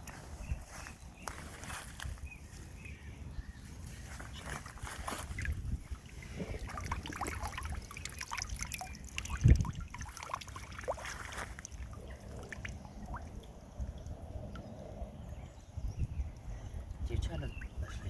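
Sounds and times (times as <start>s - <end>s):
water splashing and trickling: 0.0s - 2.8s, 3.6s - 18.0s.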